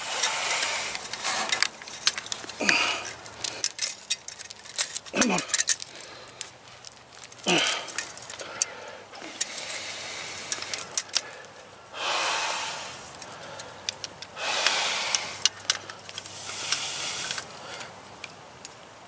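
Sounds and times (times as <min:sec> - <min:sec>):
hissing breaths: 0:00.0 - 0:18.0
tool and wire clicks: 0:00.1 - 0:09.8, 0:10.4 - 0:11.6, 0:13.1 - 0:18.8.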